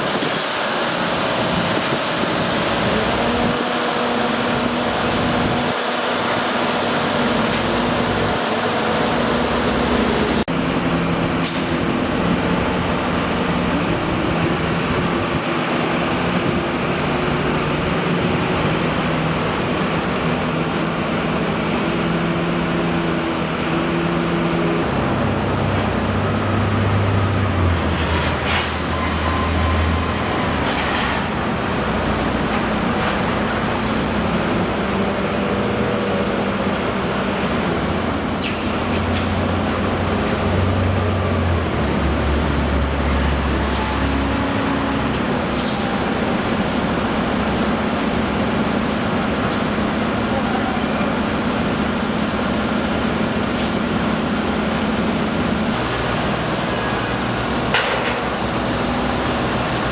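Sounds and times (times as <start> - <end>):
constant noisy wash: 0.0 - 59.9
large engine running: 0.0 - 59.9.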